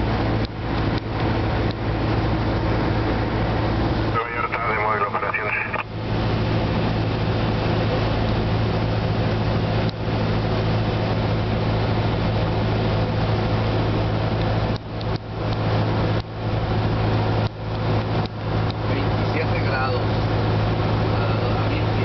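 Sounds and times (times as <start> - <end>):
aircraft engine and propeller droning: 0.0 - 22.0.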